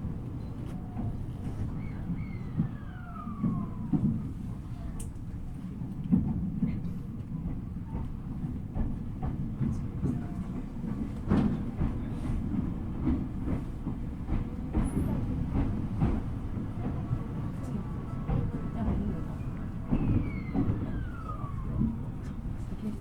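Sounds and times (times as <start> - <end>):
train running gear rumble: 0.0 - 23.0.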